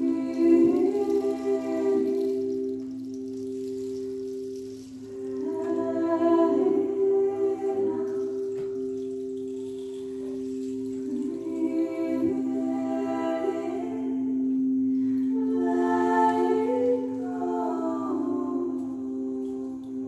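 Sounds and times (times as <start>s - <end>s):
wordless voice singing long notes: 0.0s - 3.4s, 5.0s - 20.0s
singing bowls sustained tones: 0.0s - 20.0s.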